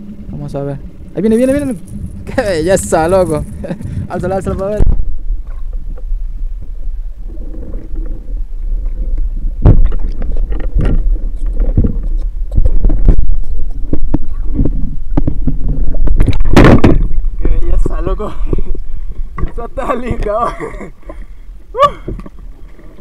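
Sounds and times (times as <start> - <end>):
underwater rumble: 0.0 - 20.2.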